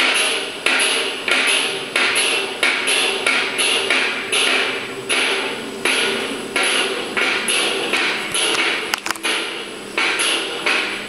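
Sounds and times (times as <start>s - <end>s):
hammer on metal: 0.0s - 11.0s
hammer on wood: 0.0s - 11.0s.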